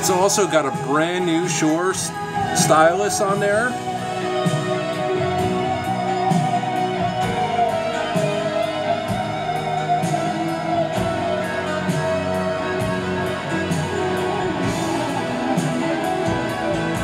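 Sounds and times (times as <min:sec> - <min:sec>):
music with steady beat: 0:00.0 - 0:17.0.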